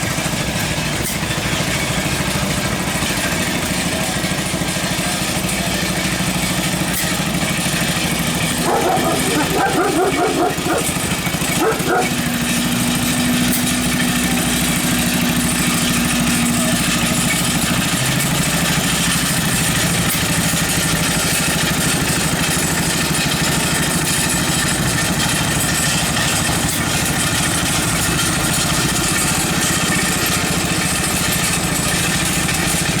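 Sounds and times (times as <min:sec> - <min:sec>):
small tractor engine running: 0:00.0 - 0:33.0.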